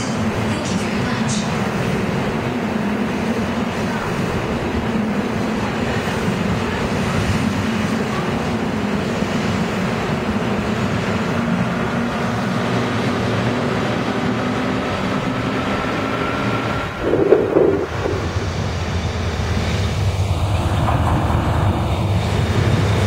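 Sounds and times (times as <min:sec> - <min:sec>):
train wheels on rail: 0:00.0 - 0:23.0.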